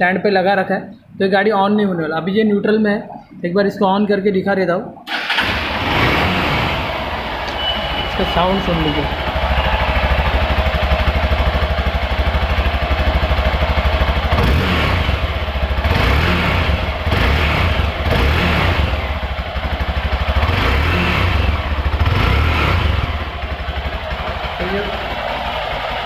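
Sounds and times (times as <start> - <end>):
motorcycle engine idling and revving: 5.1 - 26.0.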